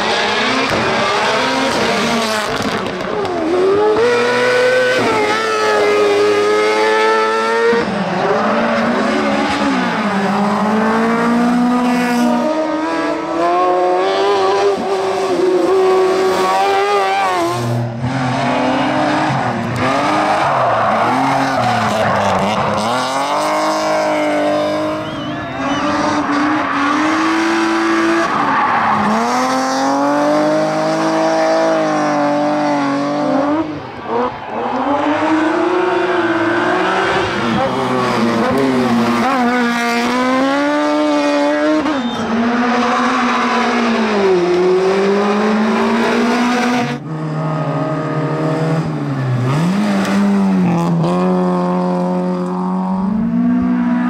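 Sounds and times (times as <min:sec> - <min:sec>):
race car engines revving high: 0:00.0 - 0:54.0.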